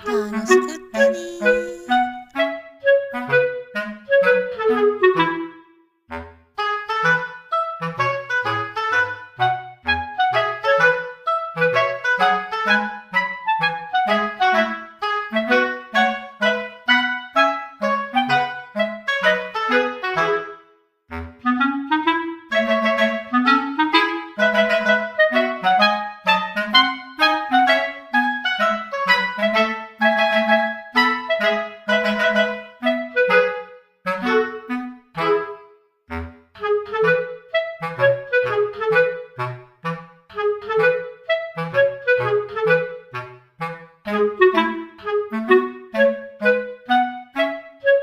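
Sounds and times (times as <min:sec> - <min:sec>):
reedy wind instrument melody: 0:00.0 - 0:20.5, 0:21.1 - 0:48.0
bouncy woodwind tune: 0:00.0 - 0:48.0.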